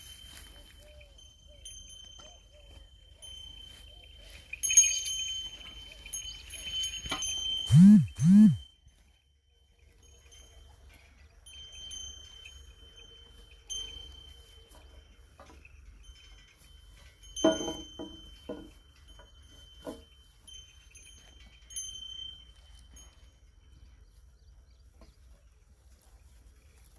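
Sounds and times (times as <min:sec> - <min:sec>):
animal bells ringing: 0:00.0 - 0:26.9.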